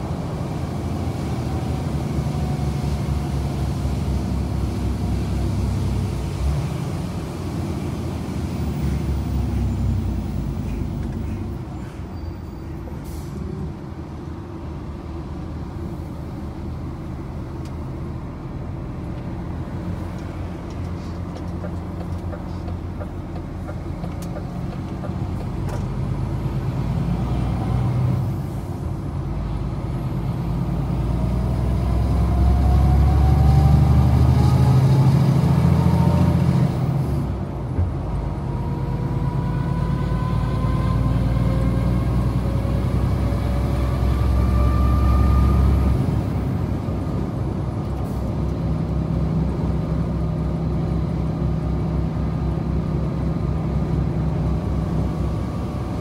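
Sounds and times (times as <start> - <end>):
diesel truck engine under load: 0.0 - 56.0.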